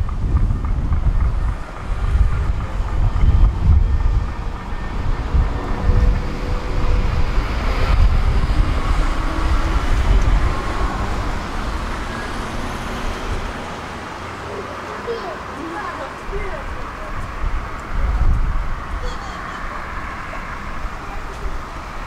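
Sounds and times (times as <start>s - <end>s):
road traffic going by: 0.0s - 22.0s.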